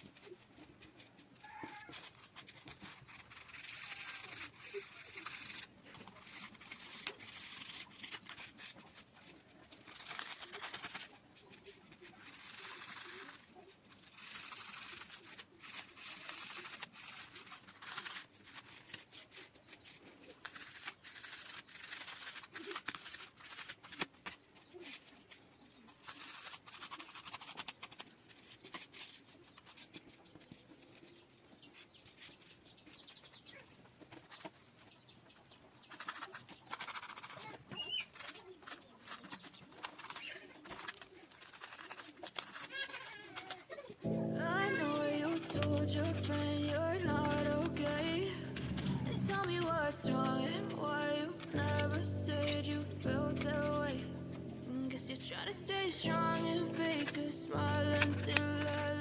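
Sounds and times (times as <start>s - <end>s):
rubbing and scraping strokes: 0.0s - 32.6s, 35.8s - 59.0s.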